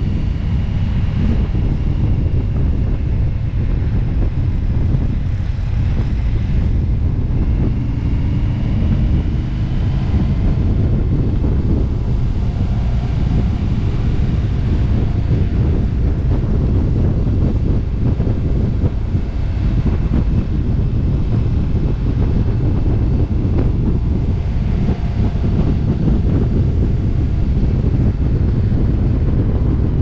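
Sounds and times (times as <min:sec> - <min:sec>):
motorcycle engine droning: 0:00.0 - 0:30.0
wind buffeting microphone: 0:00.0 - 0:30.0.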